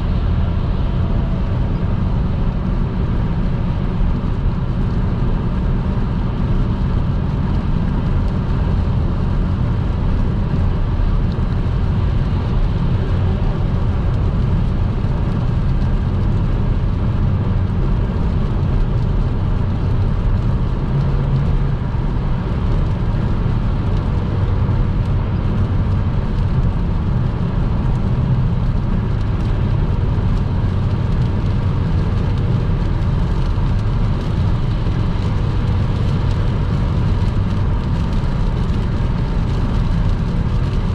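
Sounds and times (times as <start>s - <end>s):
car road noise on wet road: 0.0s - 40.9s.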